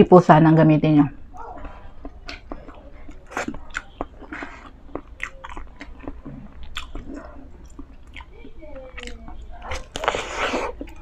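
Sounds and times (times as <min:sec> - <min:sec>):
chewing with wet mouth clicks: 0:01.6 - 0:11.0.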